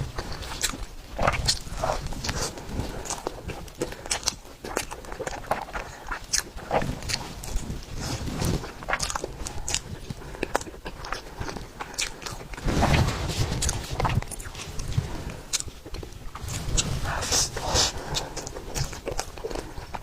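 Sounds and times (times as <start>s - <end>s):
wet chewing and mouth sounds: 0.0s - 20.0s.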